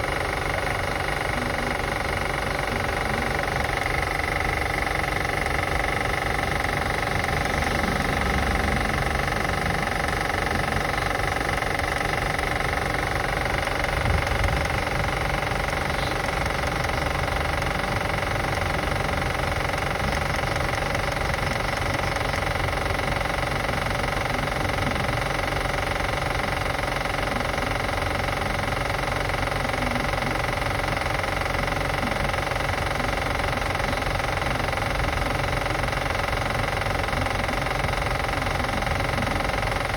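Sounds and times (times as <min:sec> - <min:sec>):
car engine idling: 0:00.0 - 0:39.9
engine clicking: 0:00.0 - 0:39.9.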